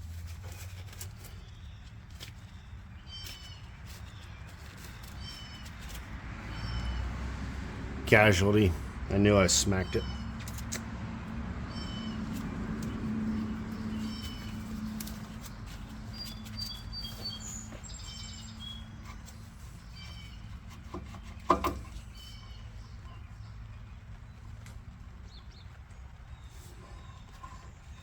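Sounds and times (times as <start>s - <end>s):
birds chirping: 1.2s - 28.0s.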